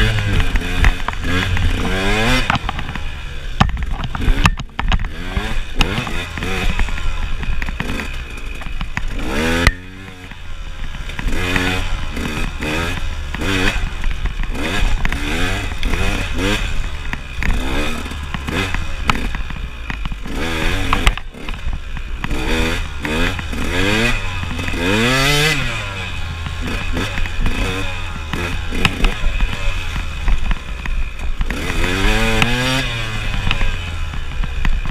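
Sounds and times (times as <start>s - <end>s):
motorcycle engine revving: 0.0s - 34.9s
sharp knocks of bike on ground: 0.0s - 34.9s.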